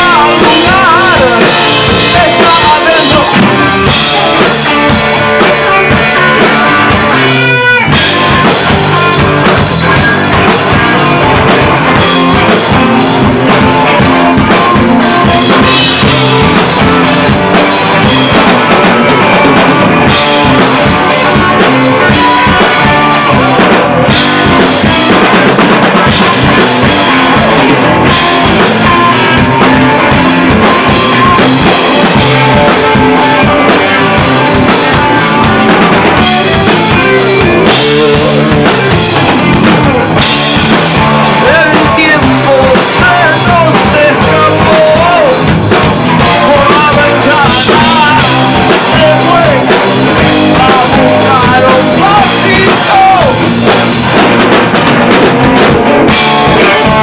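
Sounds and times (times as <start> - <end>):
blues-rock band playing live: 0.0 - 57.0.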